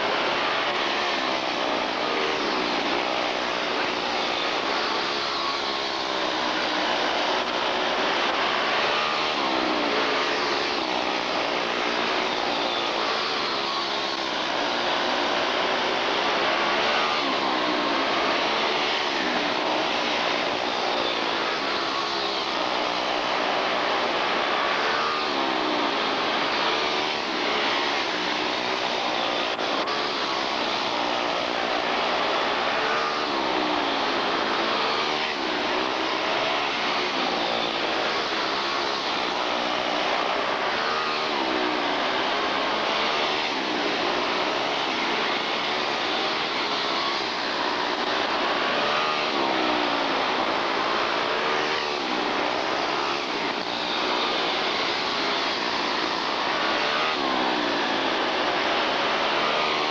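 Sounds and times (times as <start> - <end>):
small race car engines running: 0.0 - 59.9.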